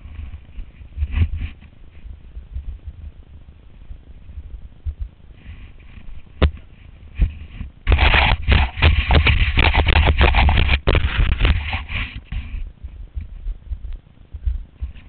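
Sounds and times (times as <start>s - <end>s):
snow and gear scraping microphone: 0.0s - 13.8s.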